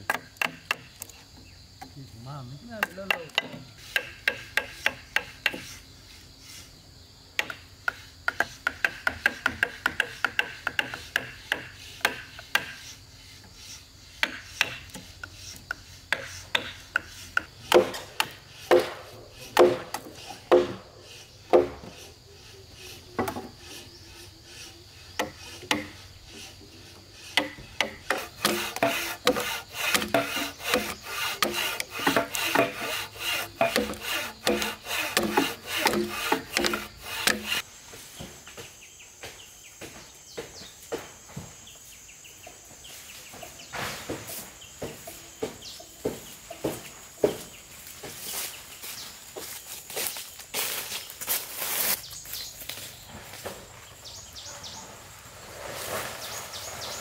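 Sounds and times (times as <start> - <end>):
hand tool scraping wood: 2.7 - 6.8, 7.4 - 37.6, 43.6 - 57.0.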